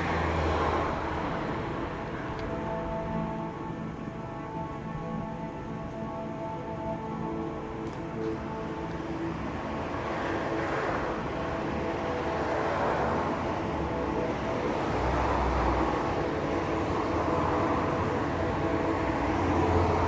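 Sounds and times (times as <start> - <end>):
faint steady tones: 0.0 - 20.0.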